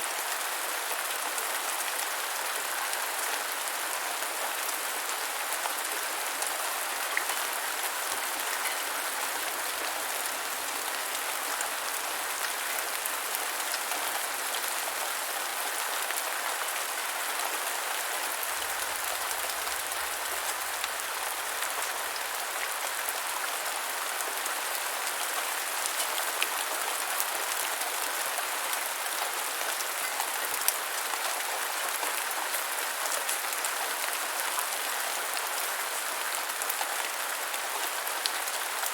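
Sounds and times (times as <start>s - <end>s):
rain on hard surface: 0.0s - 38.9s.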